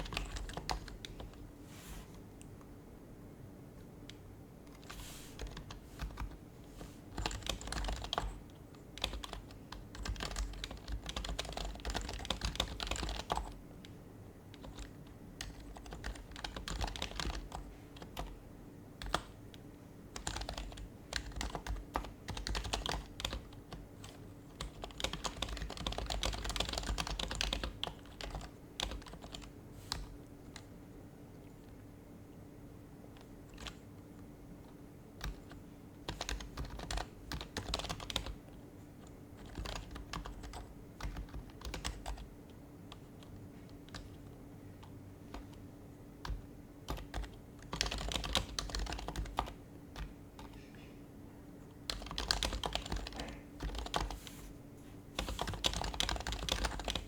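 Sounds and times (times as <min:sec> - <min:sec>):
soft muted keyboard typing: 0:00.0 - 0:02.7, 0:03.8 - 0:57.0
faint steady hum: 0:00.0 - 0:57.0.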